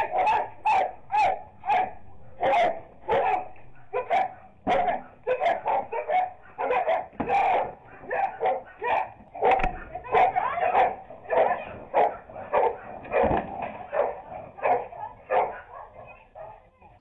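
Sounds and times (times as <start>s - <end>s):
small dog yappy barking: 0.0s - 16.6s.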